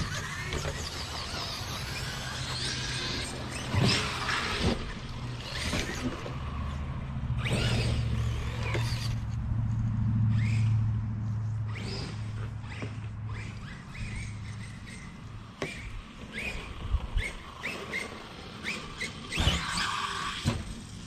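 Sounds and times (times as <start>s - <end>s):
steady low hum: 0.0s - 19.6s
electric toy car motors whining: 0.0s - 21.0s.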